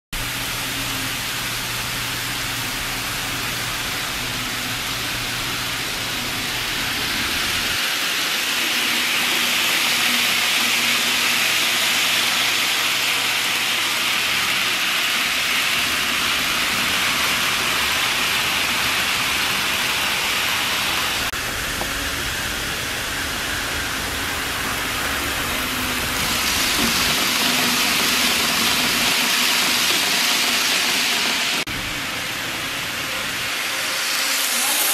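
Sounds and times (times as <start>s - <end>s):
model train whirring on track: 0.2s - 34.9s.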